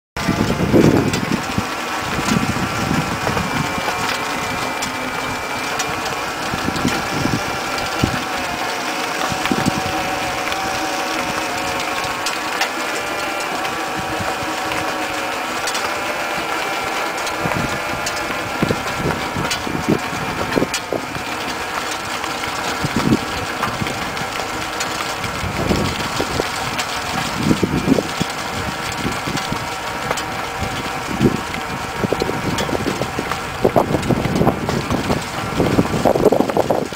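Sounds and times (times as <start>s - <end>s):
electric tractor and tiller whine: 0.2s - 36.9s.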